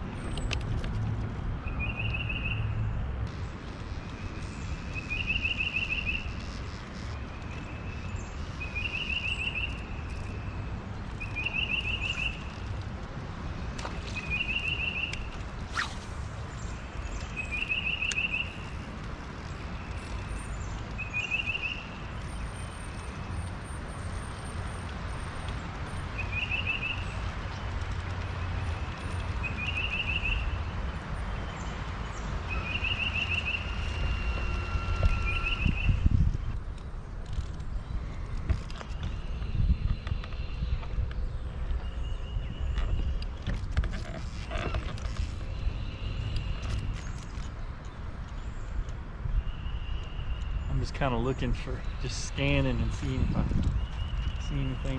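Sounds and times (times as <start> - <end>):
songbird singing: 1.6 - 54.9.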